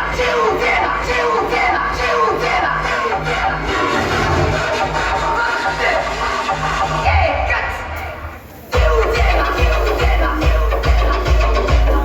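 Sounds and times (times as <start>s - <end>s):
loud music over sound system: 0.0s - 12.0s.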